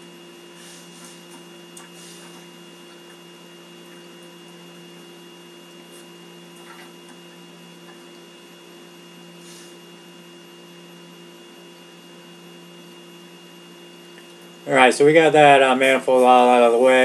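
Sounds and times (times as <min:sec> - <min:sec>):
faint high whine: 0:00.0 - 0:17.0
steady hum: 0:00.0 - 0:17.0.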